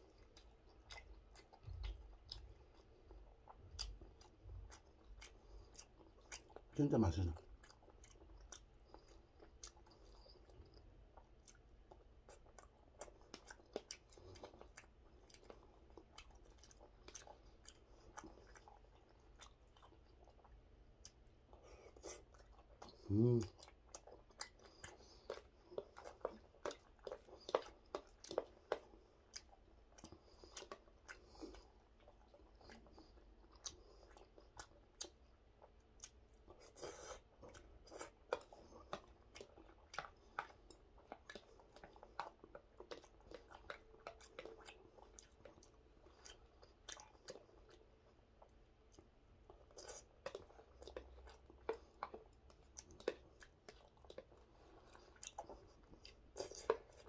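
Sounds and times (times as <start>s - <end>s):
man chewing: 0.0s - 57.0s.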